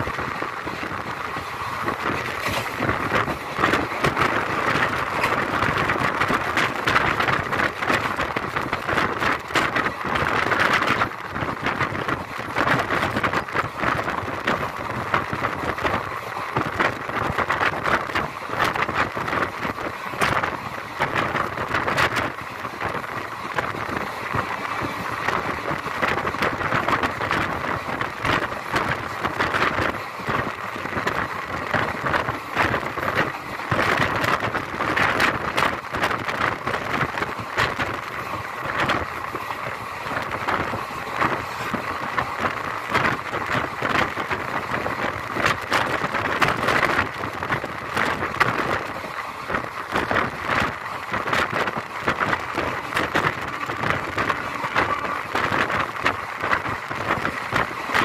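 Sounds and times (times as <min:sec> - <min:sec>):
train wheels rushing on rails: 0:00.0 - 0:58.0
wind buffeting microphone: 0:00.0 - 0:58.0.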